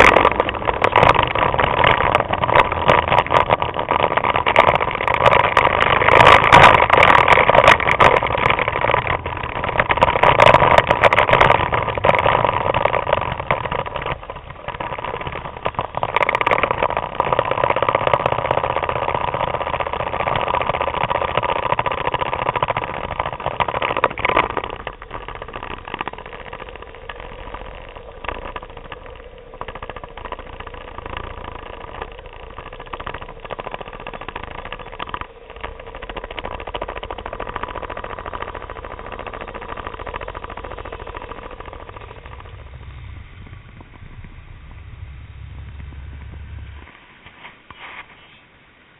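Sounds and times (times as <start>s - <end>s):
scooter engines running: 0.0s - 48.0s
road noise: 0.0s - 48.9s.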